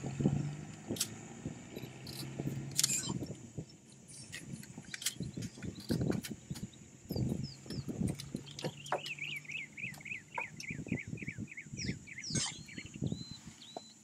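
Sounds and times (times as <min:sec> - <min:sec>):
bird chirping: 0:01.7 - 0:14.0.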